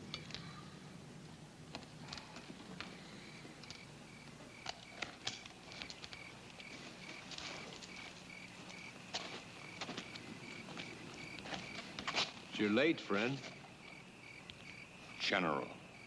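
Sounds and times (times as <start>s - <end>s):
crickets chirping: 0.0s - 16.0s
faint low hum: 0.0s - 16.0s.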